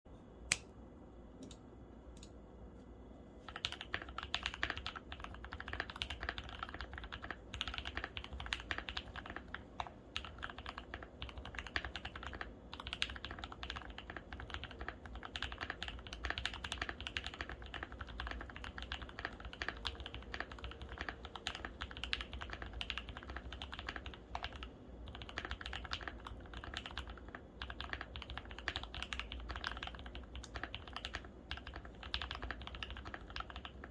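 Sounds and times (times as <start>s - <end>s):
mechanical keyboard typing: 3.5s - 33.9s.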